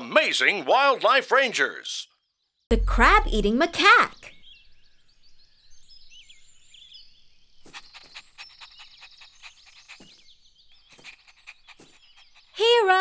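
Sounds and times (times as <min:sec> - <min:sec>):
birds chirping: 0:02.1 - 0:13.0.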